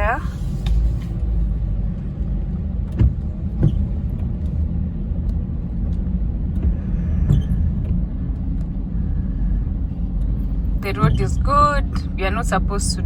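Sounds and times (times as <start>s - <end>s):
car interior low rumble: 0.0s - 13.0s.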